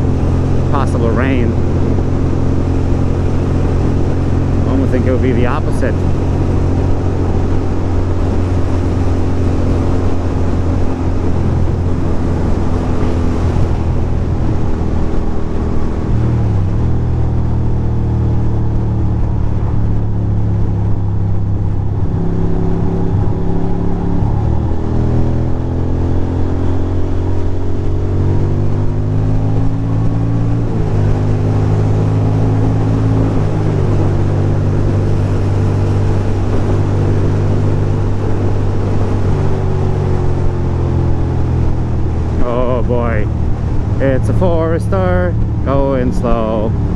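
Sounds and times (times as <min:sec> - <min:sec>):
wind rush: 0:00.0 - 0:46.9.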